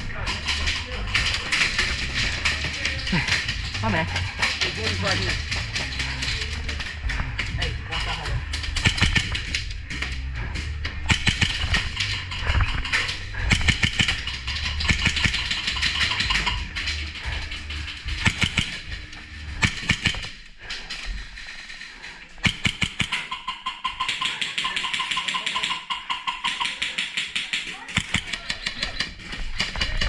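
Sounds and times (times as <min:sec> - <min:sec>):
music with driving drum beat: 0:00.0 - 0:20.3, 0:22.4 - 0:26.8
percussive clicks: 0:00.3 - 0:17.0, 0:17.7 - 0:20.4, 0:22.4 - 0:30.0.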